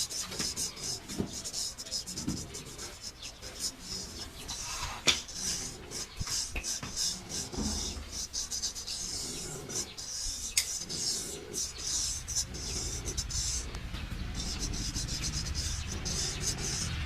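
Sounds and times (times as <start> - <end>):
scraping and rubbing on hair: 0.0 - 17.0.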